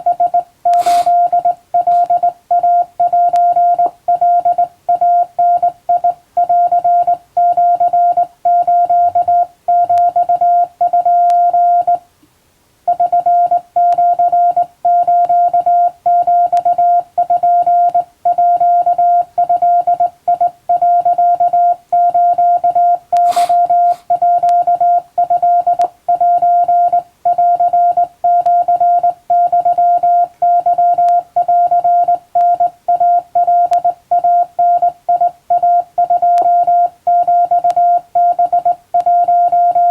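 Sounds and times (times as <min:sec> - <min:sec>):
morse code beeps: 0:00.0 - 0:12.0, 0:12.9 - 0:39.9.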